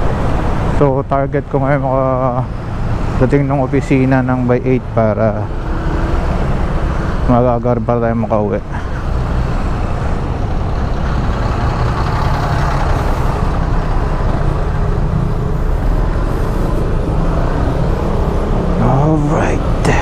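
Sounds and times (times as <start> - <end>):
scooter engine and road noise: 0.0 - 20.0.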